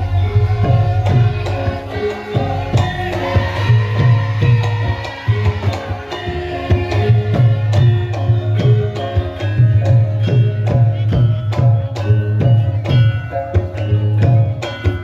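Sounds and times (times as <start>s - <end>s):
hand drum strokes: 0.0s - 15.0s
struck metallophone notes: 0.0s - 15.0s.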